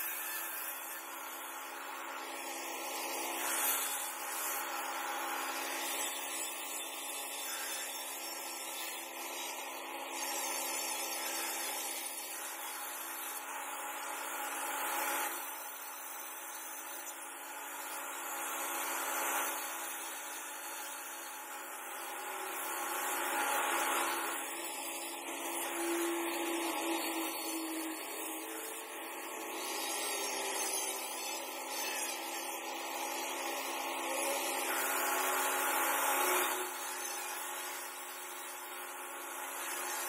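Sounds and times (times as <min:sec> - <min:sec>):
angle grinder cutting stone: 0:00.0 - 0:40.0.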